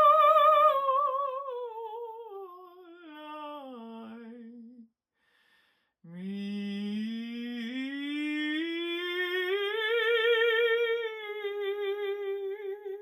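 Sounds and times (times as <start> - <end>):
woman singing a long wordless note: 0.0 - 4.8, 6.1 - 13.0.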